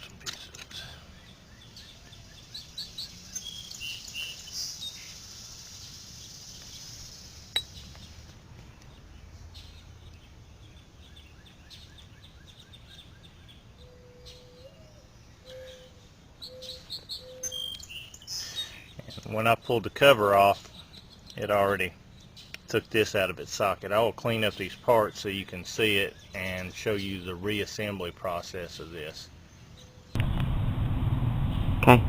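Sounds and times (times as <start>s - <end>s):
birds chirping: 0.0s - 30.2s
low steady hiss: 0.0s - 32.0s.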